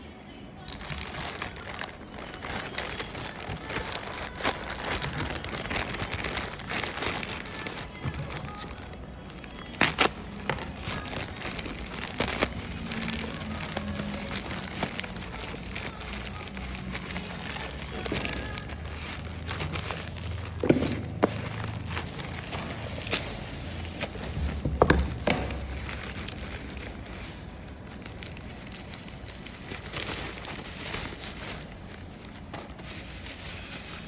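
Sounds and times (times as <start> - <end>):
packaging crinkling and rustling: 0.6 - 34.0.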